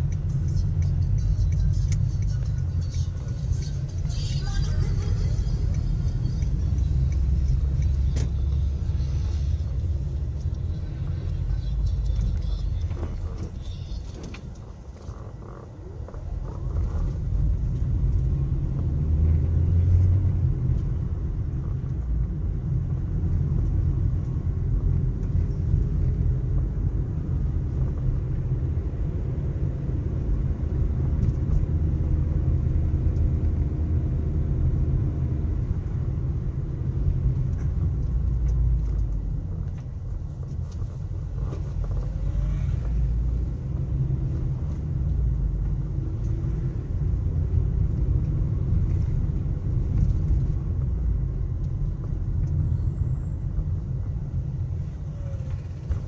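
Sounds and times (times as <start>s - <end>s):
car engine and road rumble: 0.0s - 56.0s
faint engine hum: 0.0s - 56.0s.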